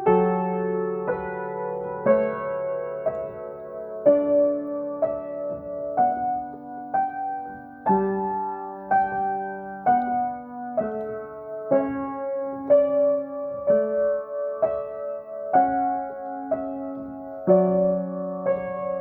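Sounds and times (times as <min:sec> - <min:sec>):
slow calm piano: 0:00.0 - 0:19.0.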